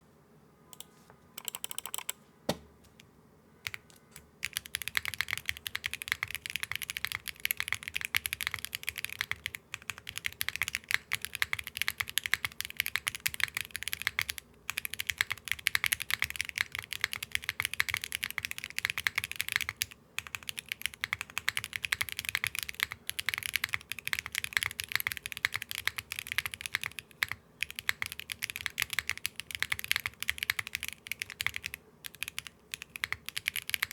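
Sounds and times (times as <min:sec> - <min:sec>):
typing on mechanical keyboard: 0:01.4 - 0:02.2, 0:03.7 - 0:33.9.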